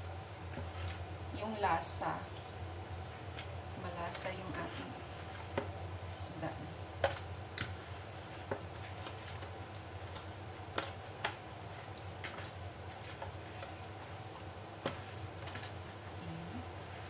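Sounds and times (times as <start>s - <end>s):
steady low hum: 0.0s - 17.0s
wet squishing of hand rubbing fish: 0.0s - 17.0s.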